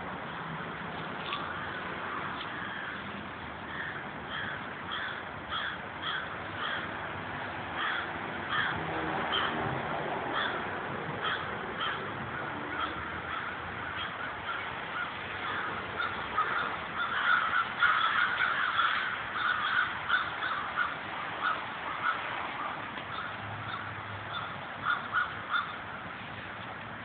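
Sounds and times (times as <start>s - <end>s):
crows cawing: 1.3s - 7.0s, 7.8s - 9.7s, 10.3s - 26.1s.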